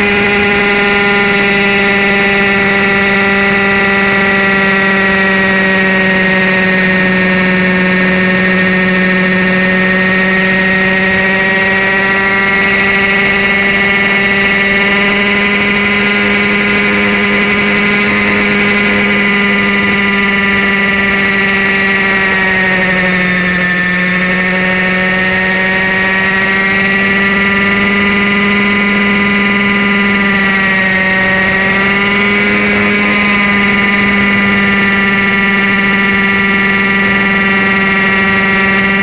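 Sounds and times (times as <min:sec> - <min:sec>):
rc helicopter drone: 0:00.0 - 0:39.0.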